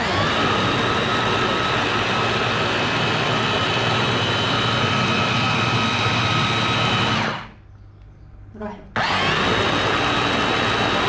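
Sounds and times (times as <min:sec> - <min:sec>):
electric chopper motor whining: 0:00.0 - 0:07.6, 0:09.0 - 0:11.0.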